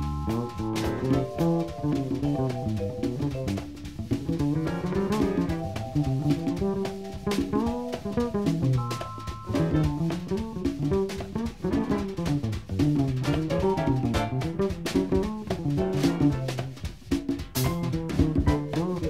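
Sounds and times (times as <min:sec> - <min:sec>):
drum kit cymbals and drums: 0:00.0 - 0:19.0
jazz band playing: 0:00.0 - 0:19.0.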